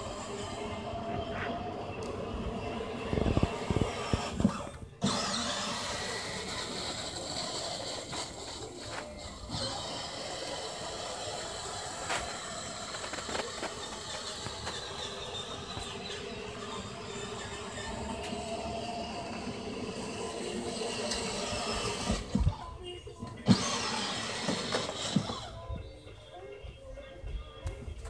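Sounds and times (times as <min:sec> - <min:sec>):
electric toy car motor whining: 0:00.0 - 0:22.7, 0:23.4 - 0:25.6.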